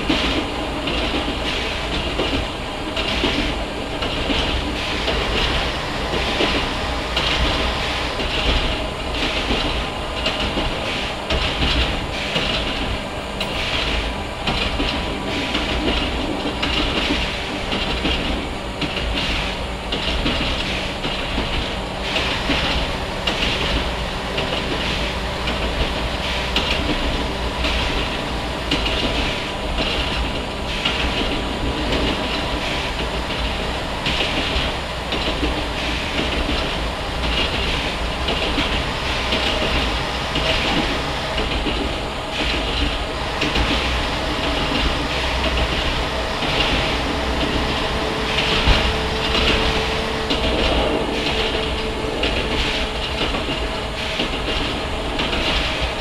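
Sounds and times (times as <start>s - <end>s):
diesel railcar engine and rolling: 0.0s - 56.0s
wheels clicking over rail joints: 0.0s - 56.0s.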